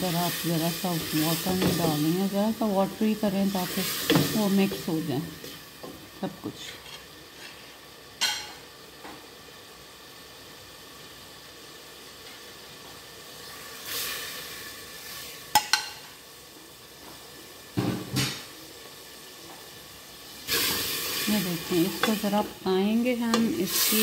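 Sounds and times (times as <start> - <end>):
masala sizzling in oil: 0.0 - 24.0.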